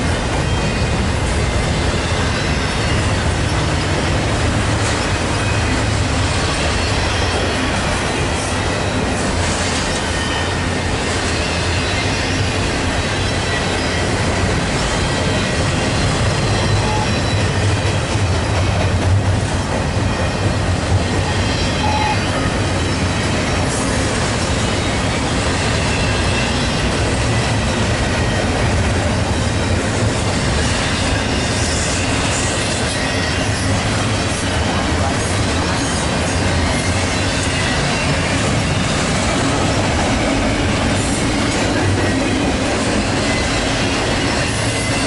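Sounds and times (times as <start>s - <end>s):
train wheels rumbling on rails: 0.0s - 45.0s
high wheel squeal: 0.4s - 18.6s, 20.0s - 34.0s, 35.3s - 45.0s.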